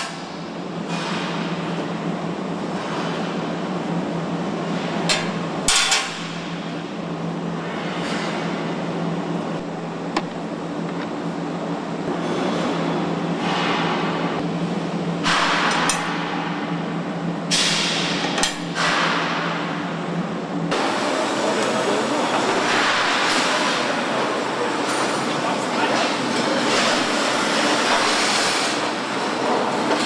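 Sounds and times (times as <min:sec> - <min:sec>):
steady machinery noise: 0:00.0 - 0:30.0.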